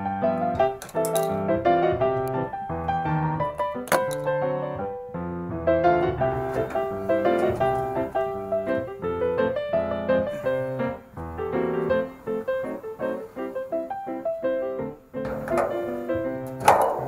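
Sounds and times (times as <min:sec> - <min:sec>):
lively piano melody: 0:00.0 - 0:17.0.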